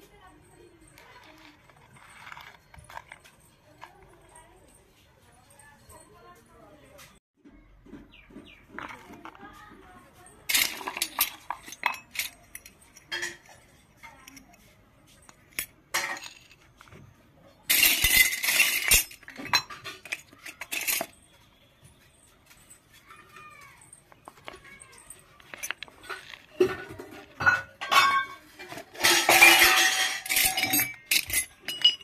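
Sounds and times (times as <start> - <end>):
toy kitchenware clinking and rattling: 0.0 - 32.0.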